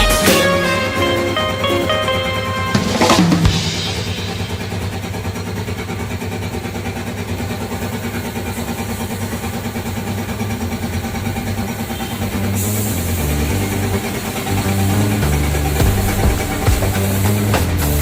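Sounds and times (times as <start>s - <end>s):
two-stroke motorcycle engine idling: 0.0s - 18.0s.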